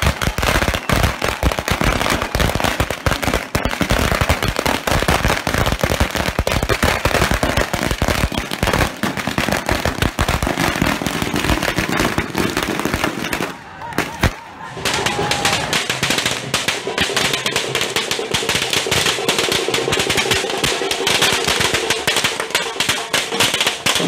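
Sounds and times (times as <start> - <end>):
string of firecrackers banging: 0.0 - 24.0.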